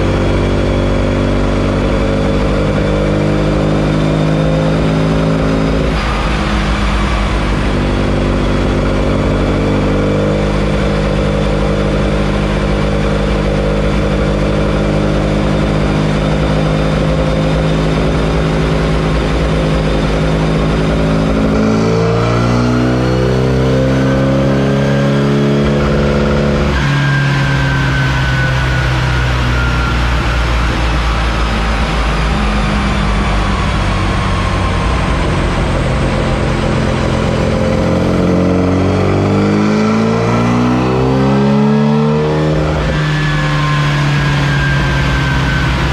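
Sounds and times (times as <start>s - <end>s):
engine running under load: 0.0s - 45.9s.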